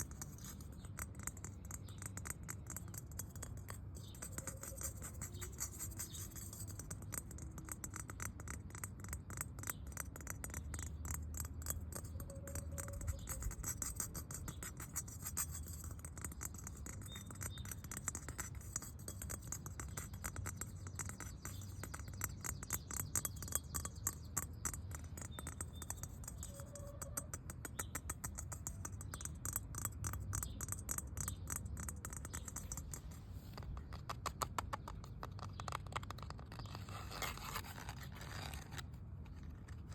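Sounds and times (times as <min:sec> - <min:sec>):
tapping and scratching on hard surface: 0:00.0 - 0:39.9.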